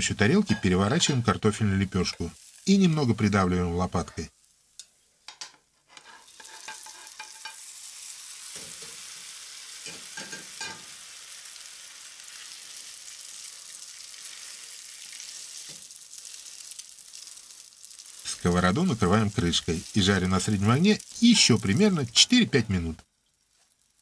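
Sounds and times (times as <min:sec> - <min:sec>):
flatbread sizzling in oil: 0:00.0 - 0:05.2, 0:05.8 - 0:24.0.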